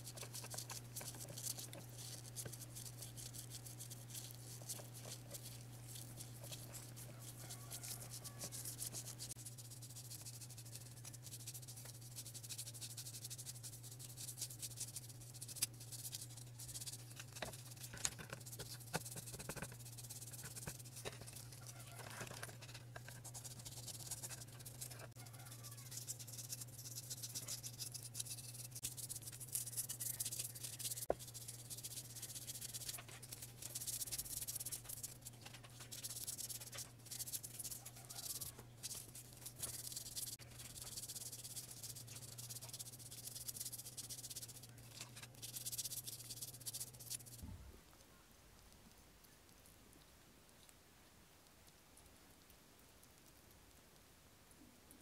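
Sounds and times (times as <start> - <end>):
brush scrubbing: 0.0 - 47.4
low steady hum: 0.0 - 55.0.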